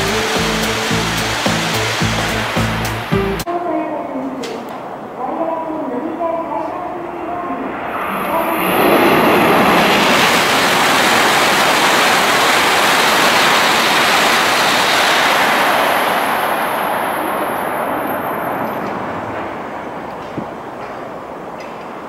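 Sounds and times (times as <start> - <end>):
high-speed train rushing past: 0.0 - 3.5, 4.4 - 22.0.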